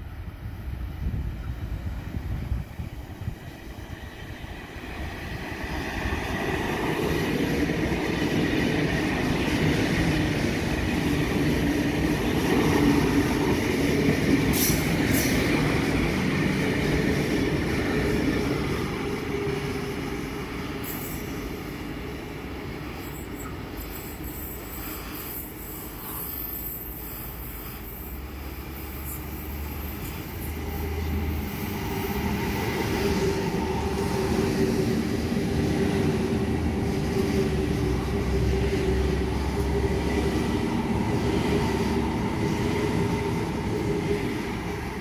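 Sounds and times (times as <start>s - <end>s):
electric train rumbling past: 0.0s - 45.0s.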